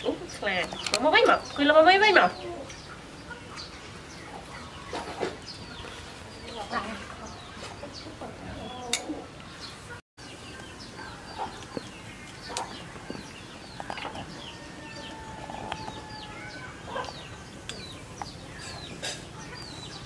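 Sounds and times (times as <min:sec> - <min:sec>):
chickens peeping: 0:00.0 - 0:20.0.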